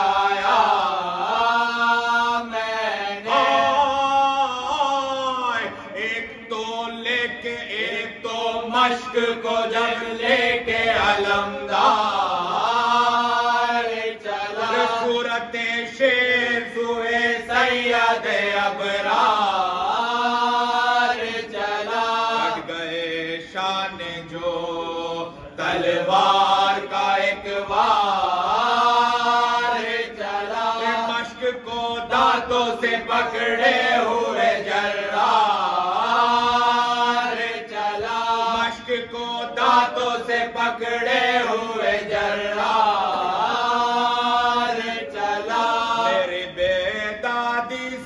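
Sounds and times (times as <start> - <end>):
man chanting into a microphone: 0.0 - 48.0
men singing in unison: 0.0 - 48.0.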